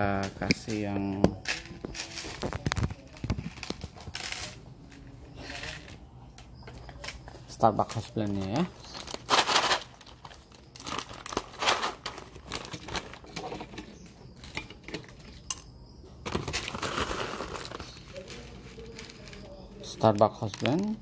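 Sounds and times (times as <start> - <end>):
coffee beans clattering: 0.3 - 4.6, 7.8 - 21.0
coffee bag rustling and crinkling: 0.6 - 6.1, 6.9 - 15.5, 16.2 - 21.0.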